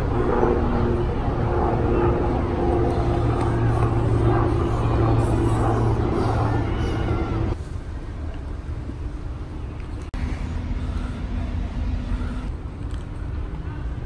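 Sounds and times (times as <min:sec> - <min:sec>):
city traffic rumble: 0:00.0 - 0:14.0
steady low hum: 0:00.0 - 0:14.0.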